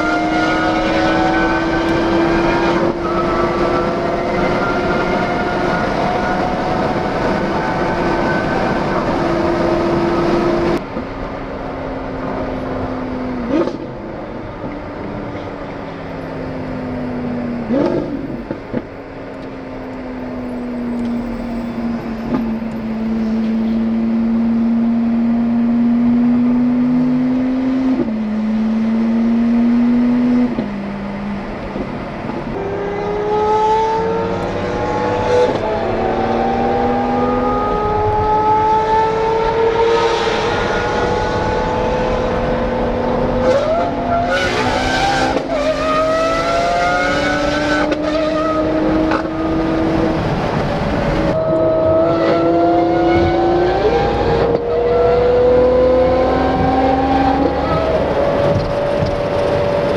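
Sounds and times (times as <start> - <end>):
sports car engine accelerating: 0.0 - 59.9.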